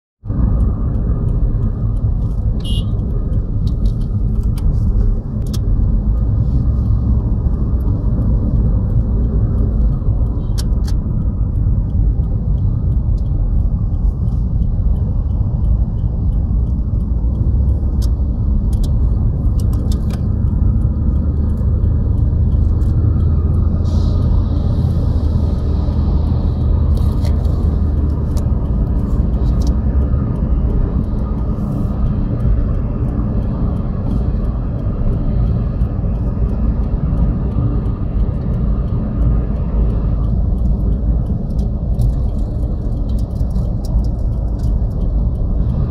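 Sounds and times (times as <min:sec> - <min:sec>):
car road and engine rumble: 0:00.2 - 0:45.9.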